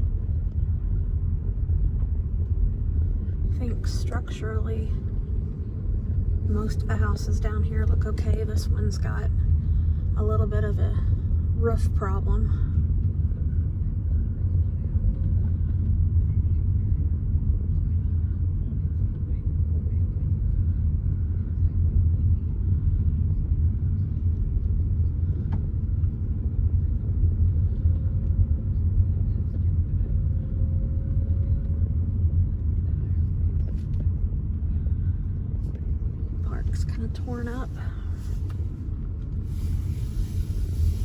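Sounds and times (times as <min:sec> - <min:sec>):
road noise inside car: 0:00.0 - 0:41.0.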